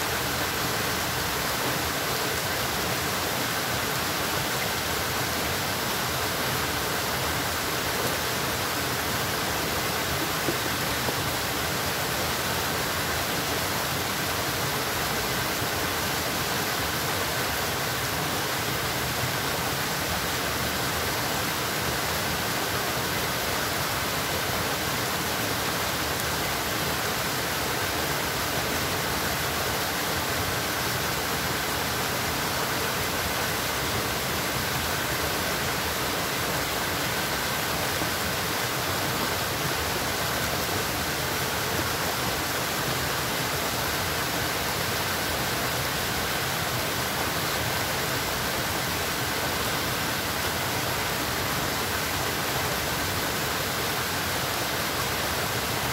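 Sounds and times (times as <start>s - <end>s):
flowing water rushing: 0.0s - 55.9s.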